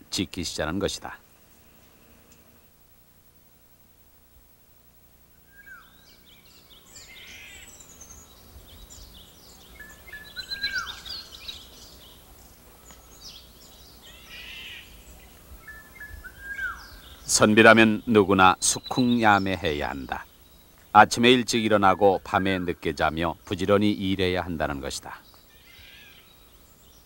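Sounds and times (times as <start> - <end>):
birds chirping: 5.2 - 27.0.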